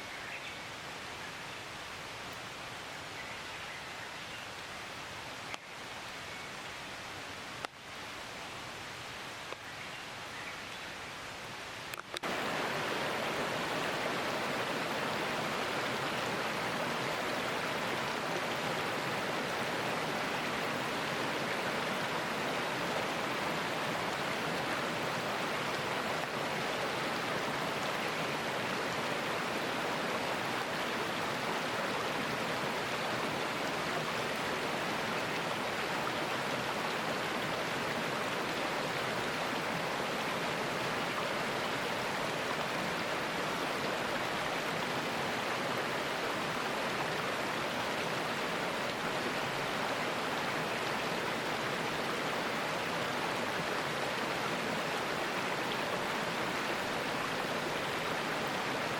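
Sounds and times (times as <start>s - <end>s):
mountain stream rushing: 0.0s - 58.9s.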